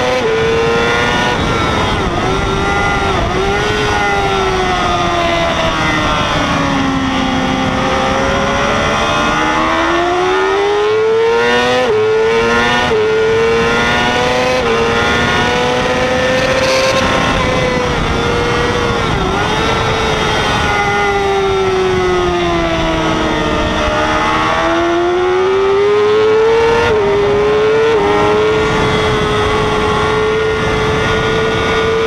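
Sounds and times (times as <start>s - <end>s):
motorcycle engine at high revs: 0.0s - 32.0s
wind rushing over camera: 0.0s - 32.0s.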